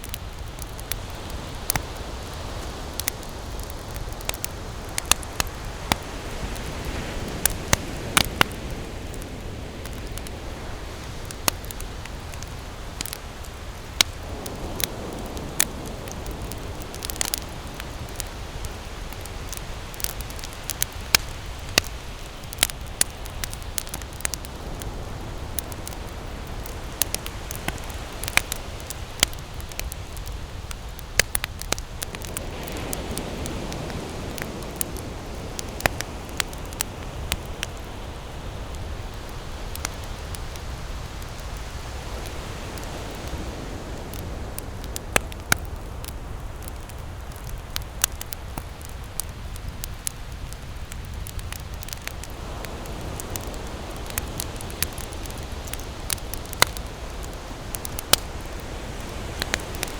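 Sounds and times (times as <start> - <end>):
campfire crackling: 0.0 - 59.9
fire popping and snapping: 0.0 - 59.9.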